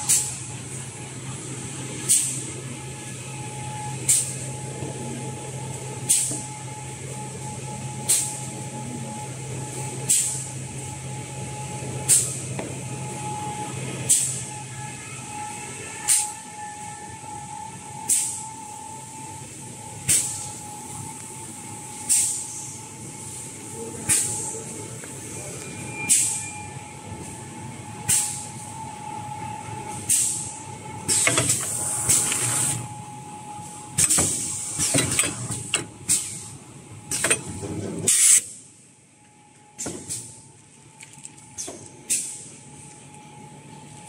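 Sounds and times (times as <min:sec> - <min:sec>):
production line machinery humming: 0:00.0 - 0:44.0.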